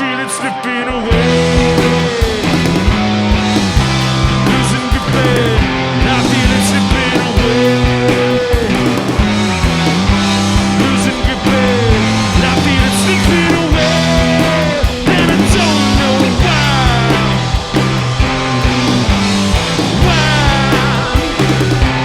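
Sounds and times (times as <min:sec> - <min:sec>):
electric guitar sliding notes: 0:00.0 - 0:22.0
rock band playing: 0:00.0 - 0:22.0.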